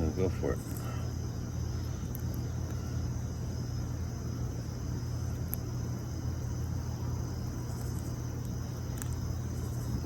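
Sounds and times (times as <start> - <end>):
high-pitched insect drone: 0.0 - 10.0
steady low rumble: 0.0 - 10.0.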